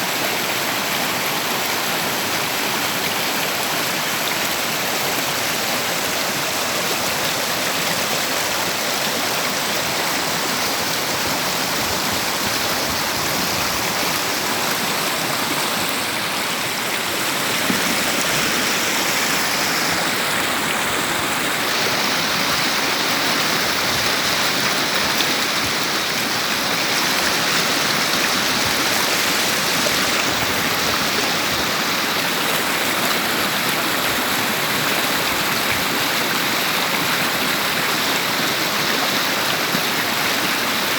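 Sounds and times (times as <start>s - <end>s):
river water rushing over stones: 0.0s - 40.9s.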